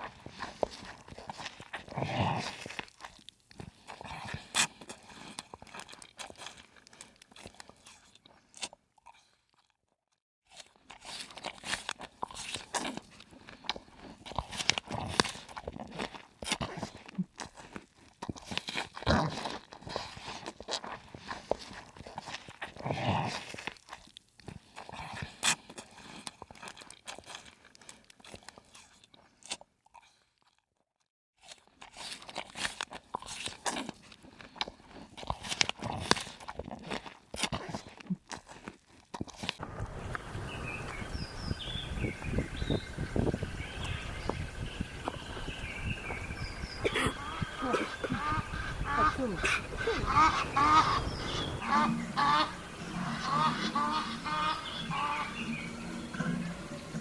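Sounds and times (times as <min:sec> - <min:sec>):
crunching and chewing: 0:00.0 - 0:57.0.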